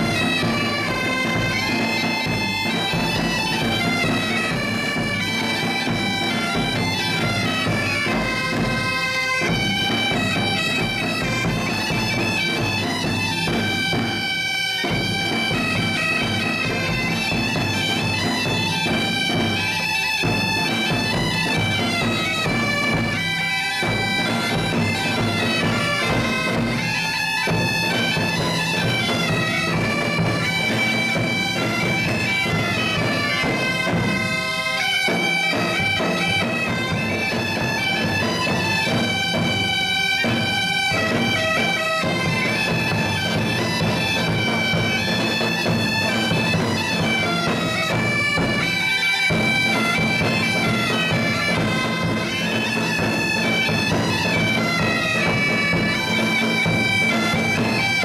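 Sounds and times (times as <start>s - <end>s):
bagpipe drone: 0.0s - 58.0s
bagpipes playing tune: 0.0s - 58.0s.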